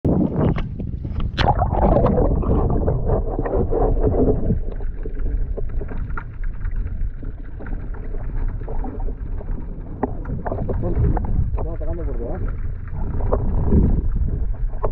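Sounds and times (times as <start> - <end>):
muffled sea water sloshing: 0.2 - 14.9.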